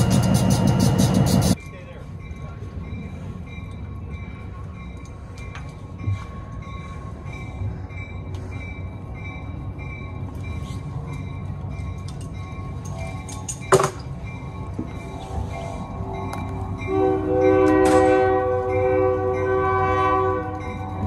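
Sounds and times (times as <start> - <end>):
train rumble from aboard: 0.0 - 21.0.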